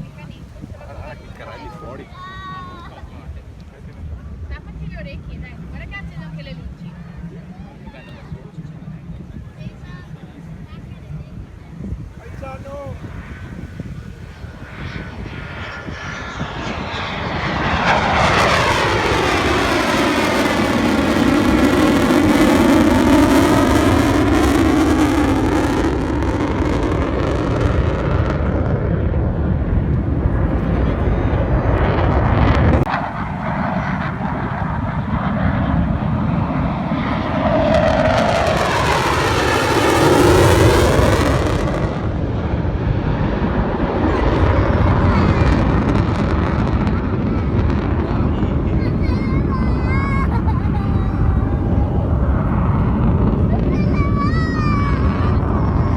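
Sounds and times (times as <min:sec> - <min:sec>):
jet roar passing: 0:10.3 - 0:55.9.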